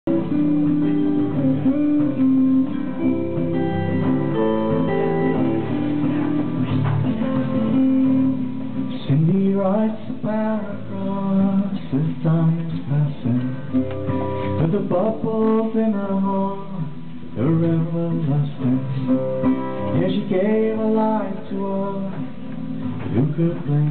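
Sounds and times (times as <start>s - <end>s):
acoustic guitar playing: 0.0s - 23.9s
man singing: 0.1s - 6.3s, 7.1s - 23.9s.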